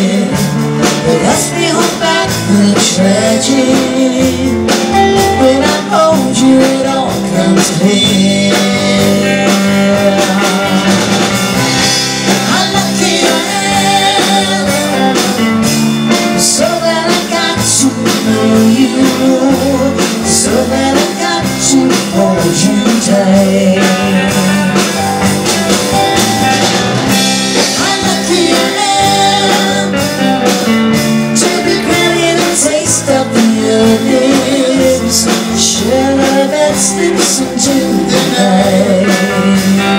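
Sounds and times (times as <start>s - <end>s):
man singing: 0.0s - 25.0s, 27.4s - 30.5s, 31.3s - 39.9s
drum kit: 0.0s - 39.9s
electric guitars: 0.0s - 39.9s.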